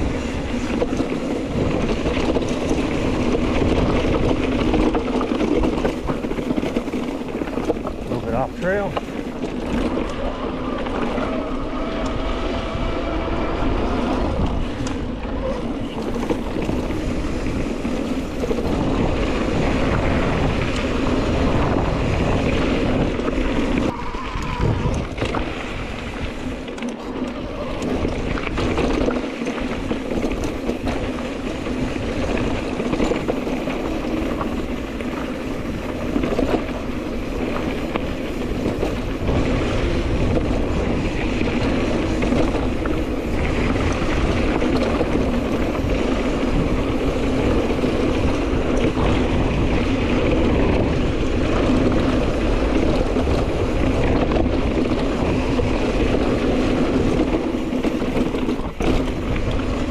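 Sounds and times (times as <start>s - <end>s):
bike tyres on dirt: 0.0s - 59.9s
wind on microphone: 0.0s - 59.9s.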